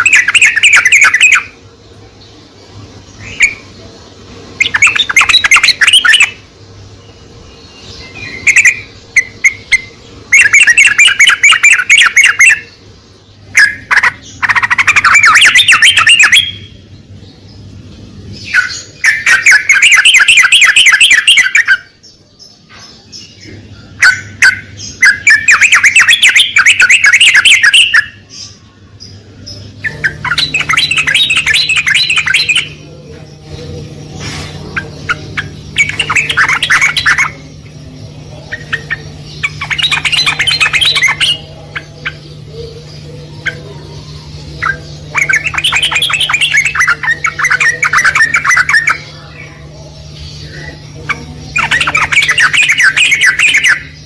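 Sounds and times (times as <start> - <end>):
bird singing bubbling chatter: 0.0 - 54.0
steady low hum: 0.0 - 54.0.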